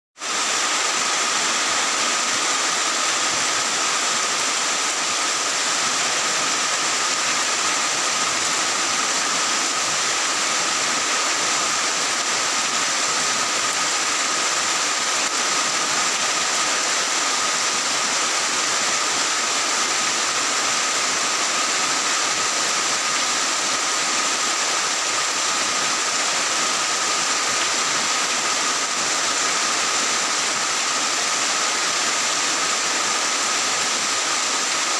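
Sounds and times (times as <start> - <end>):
heavy rain on roofs: 0.2 - 34.9.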